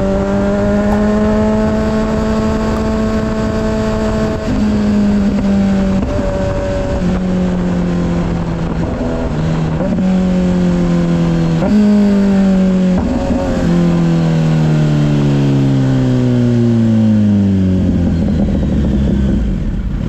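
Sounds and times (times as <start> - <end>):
motorcycle engine downshifting: 0.0 - 20.0
wind and road noise: 0.0 - 20.0.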